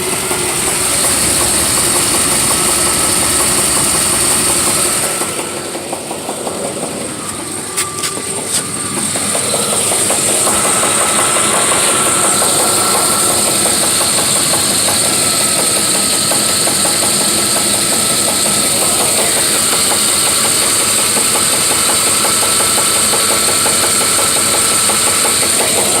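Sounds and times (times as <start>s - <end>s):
engine running with rapid knock: 0.0s - 26.0s.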